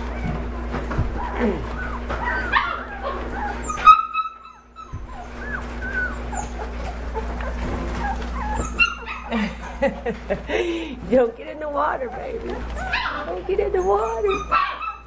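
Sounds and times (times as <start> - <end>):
puppy yelping: 0.0 - 9.9, 11.8 - 15.0
puppies whimpering and squeaking: 0.0 - 15.0.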